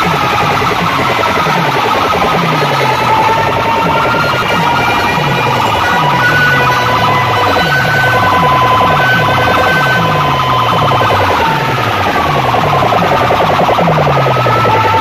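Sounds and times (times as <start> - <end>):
bass dropping in pitch: 0.0 - 15.0
loud music from sound system: 0.0 - 15.0
siren-like wailing tones: 0.0 - 15.0.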